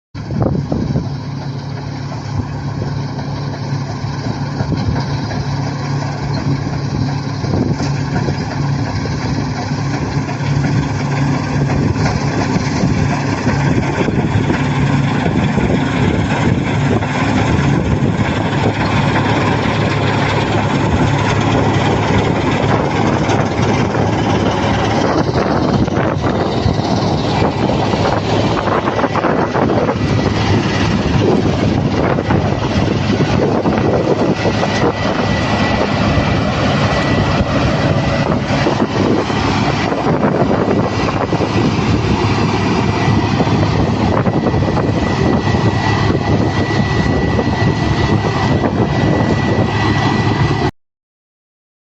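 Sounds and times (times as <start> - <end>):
combine harvester running: 0.2 - 50.7.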